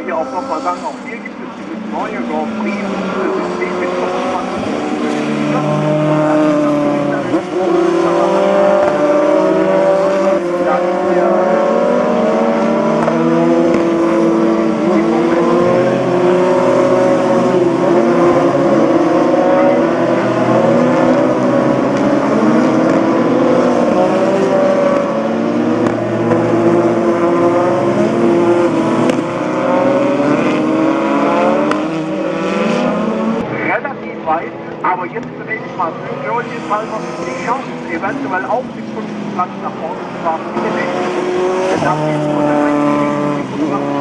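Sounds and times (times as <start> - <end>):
racing car engines revving: 0.0 - 44.0.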